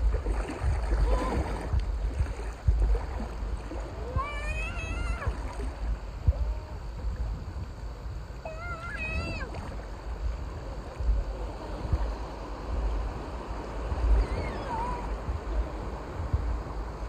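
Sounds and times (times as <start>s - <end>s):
small waves lapping: 0.0s - 17.0s
wind buffeting microphone: 0.0s - 17.0s.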